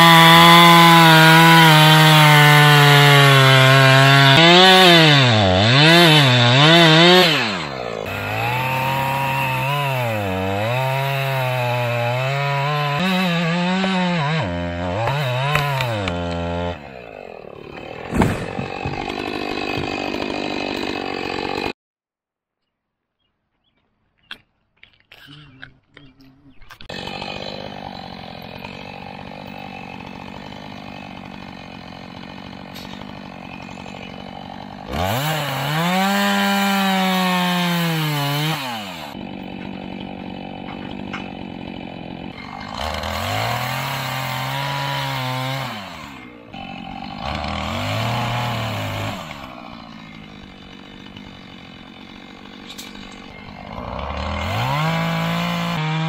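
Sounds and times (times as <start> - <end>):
chainsaw idling and revving: 0.0 - 21.8, 26.8 - 56.0.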